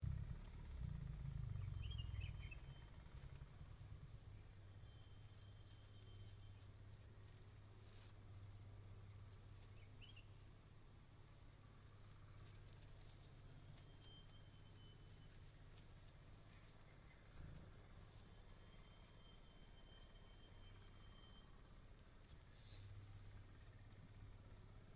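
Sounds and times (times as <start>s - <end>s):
faint high bird chirps: 0.0s - 24.7s
low steady hum: 0.0s - 24.9s.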